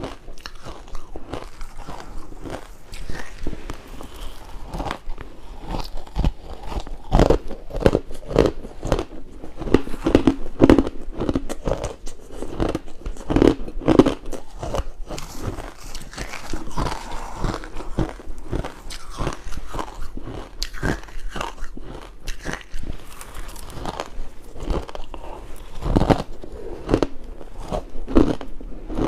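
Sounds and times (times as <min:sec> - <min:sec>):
ice crunching while chewed: 0:00.0 - 0:29.0.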